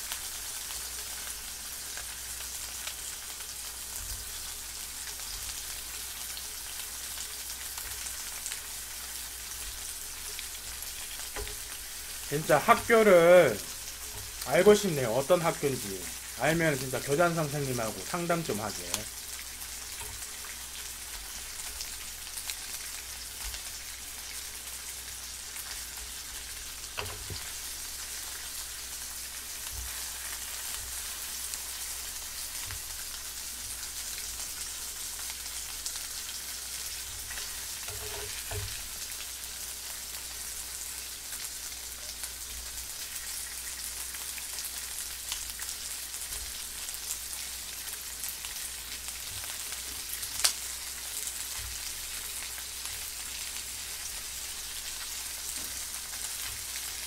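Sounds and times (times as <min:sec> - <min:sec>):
meat sizzling in a frying pan: 0:00.0 - 0:57.0.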